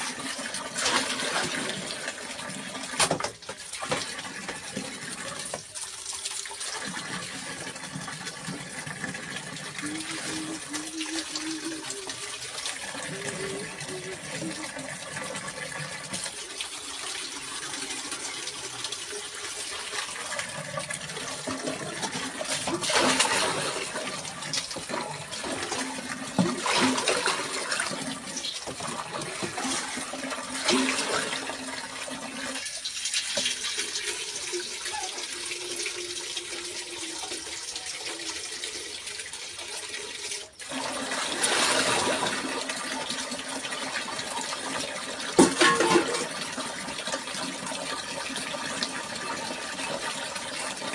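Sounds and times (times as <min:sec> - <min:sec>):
water splashing into tubs: 0:00.0 - 0:50.9.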